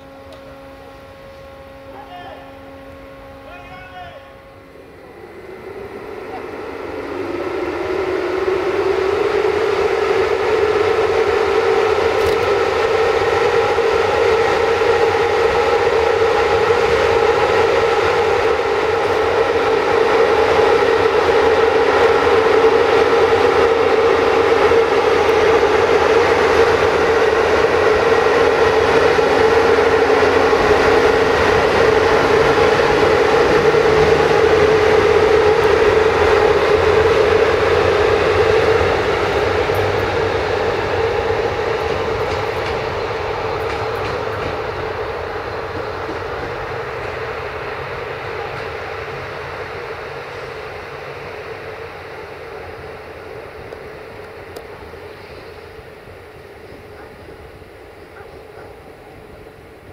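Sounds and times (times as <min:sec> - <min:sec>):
train moving through station: 0:00.0 - 0:59.9.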